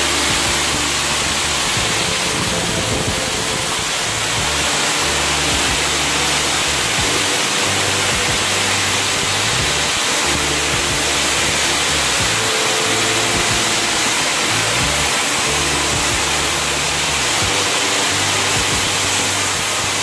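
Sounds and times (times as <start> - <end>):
low held music notes: 0.0 - 20.0
steam hissing: 0.0 - 20.0.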